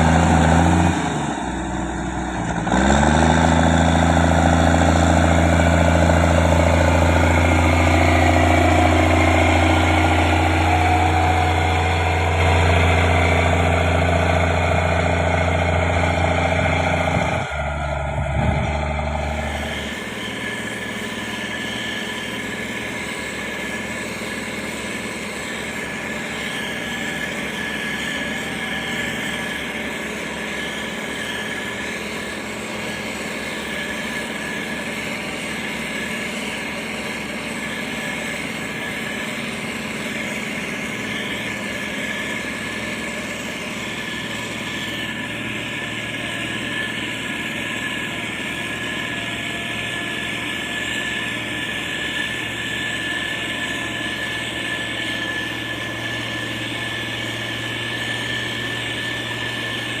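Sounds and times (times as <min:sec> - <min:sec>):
heavy machinery diesel engine: 0:00.0 - 1:00.0
high whine: 0:00.0 - 1:00.0.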